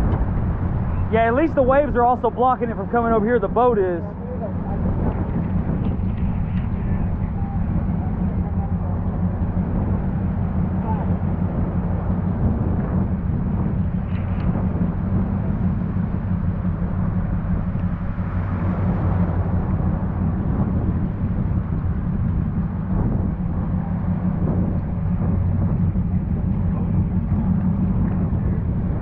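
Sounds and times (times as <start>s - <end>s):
steady rushing noise: 0.0s - 29.0s
vehicle engine humming: 0.0s - 29.0s.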